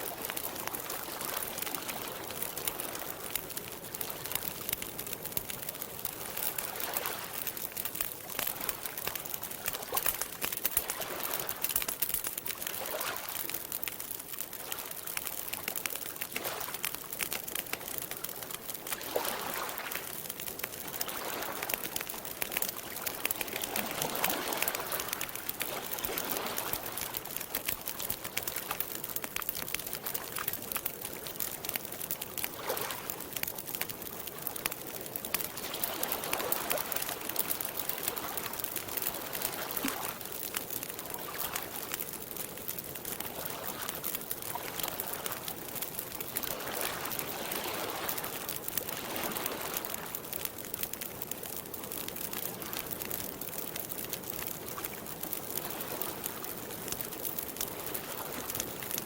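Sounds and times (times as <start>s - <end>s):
water lapping gently: 0.0s - 42.0s, 43.0s - 50.8s
campfire crackling: 0.0s - 59.0s.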